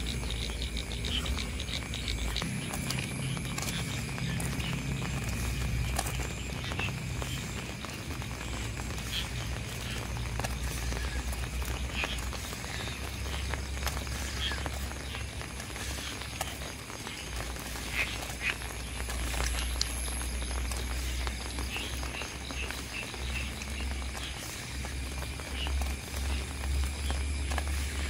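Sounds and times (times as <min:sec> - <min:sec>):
low rumble: 0:00.0 - 0:28.0
steady rain falling: 0:00.0 - 0:28.0.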